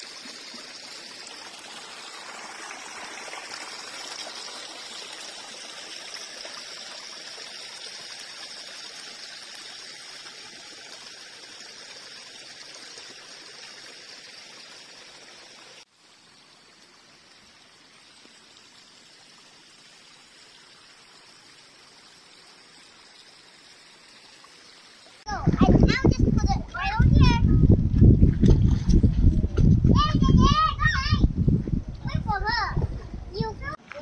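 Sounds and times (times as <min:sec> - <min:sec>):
stream trickling over rocks: 0:00.0 - 0:27.1, 0:27.8 - 0:29.8.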